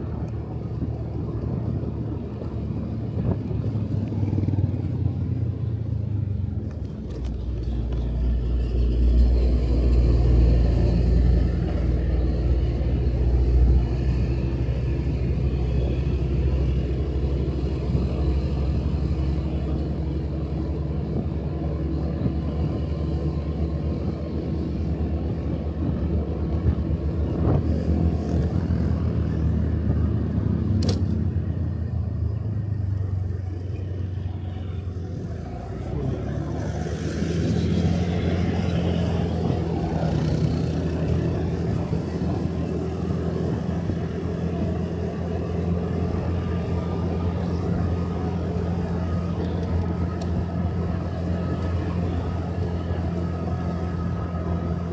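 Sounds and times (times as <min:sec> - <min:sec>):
road and wind noise: 0:00.0 - 0:54.9.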